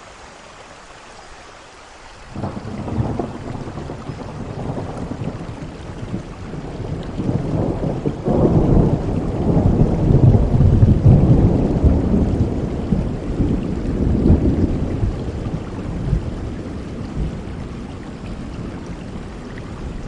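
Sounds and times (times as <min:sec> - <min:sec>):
heavy rain: 0:00.0 - 0:20.0
thunder rumbling: 0:02.3 - 0:20.0.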